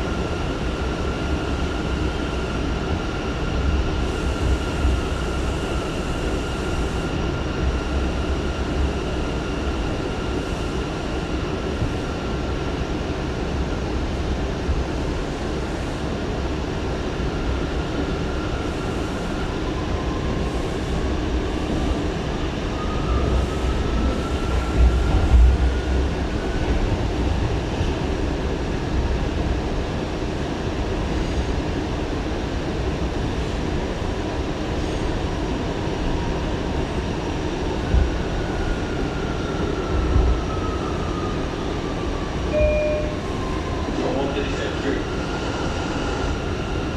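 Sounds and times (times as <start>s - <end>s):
subway motor whine: 0.0s - 46.9s.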